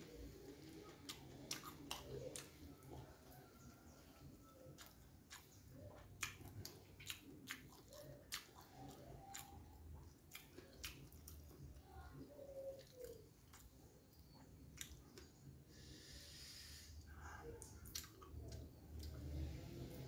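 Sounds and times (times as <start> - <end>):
man chewing food: 0.0 - 16.0, 17.6 - 20.0.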